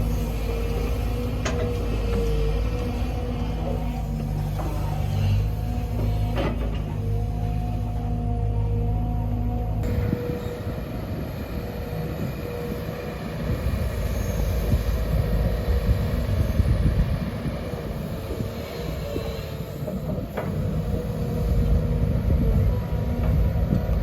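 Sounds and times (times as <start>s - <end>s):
excavator diesel rumble: 0.0s - 24.0s.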